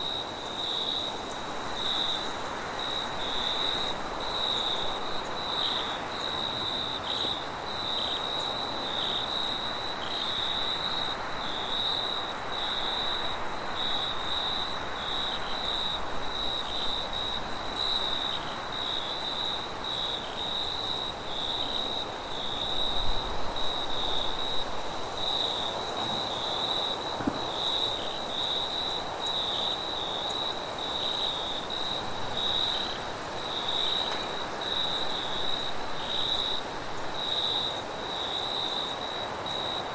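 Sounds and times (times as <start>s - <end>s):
crickets chirping: 0.0s - 39.9s
high insect trill: 0.0s - 39.9s
wind hiss: 0.0s - 39.9s.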